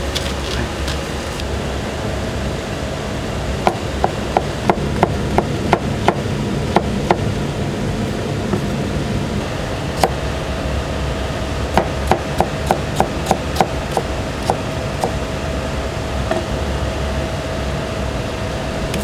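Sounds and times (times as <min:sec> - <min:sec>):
low kitchen hum: 0:00.0 - 0:19.0.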